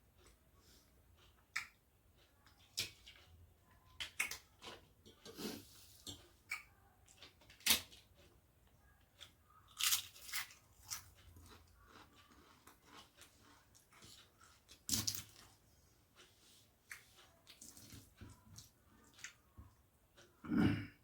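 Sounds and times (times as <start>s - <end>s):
chewing: 1.2s - 8.3s, 9.1s - 15.6s, 16.2s - 19.5s.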